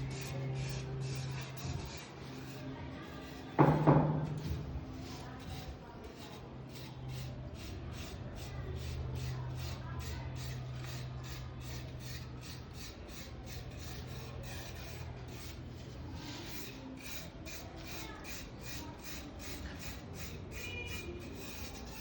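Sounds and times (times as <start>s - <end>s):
rhythmic rasping strokes: 0.0s - 22.0s.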